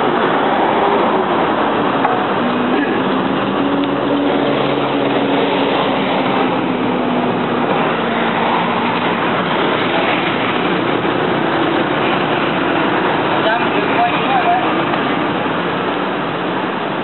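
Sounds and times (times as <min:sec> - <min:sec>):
constant rushing street noise: 0:00.0 - 0:17.0.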